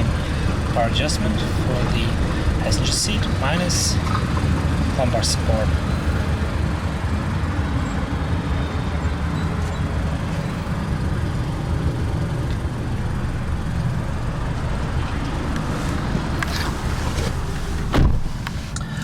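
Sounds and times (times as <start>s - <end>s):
low vehicle rumble: 0.0s - 19.0s.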